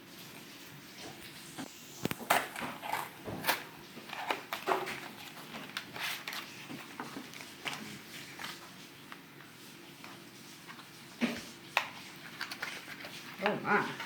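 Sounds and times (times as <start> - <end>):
card packaging rustling: 1.2 - 14.0.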